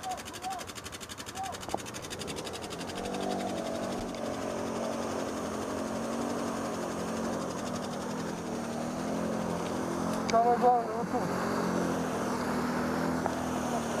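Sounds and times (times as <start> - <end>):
quad bike engines droning: 0.0 - 14.0.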